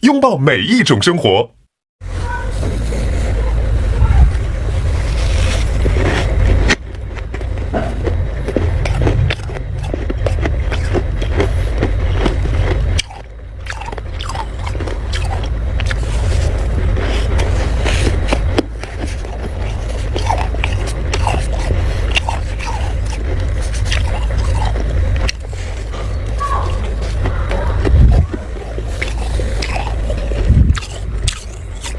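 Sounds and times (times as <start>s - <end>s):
low rumble: 2.0s - 31.9s
frost crunching while chewed: 4.3s - 31.9s.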